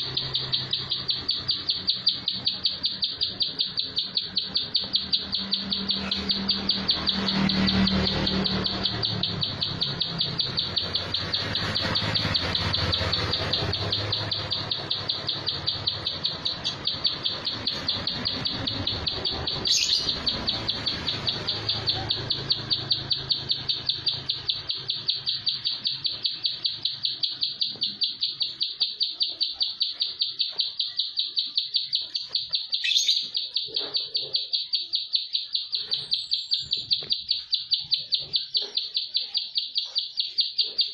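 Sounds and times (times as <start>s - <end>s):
bird calling high repeated notes: 0.0s - 40.9s.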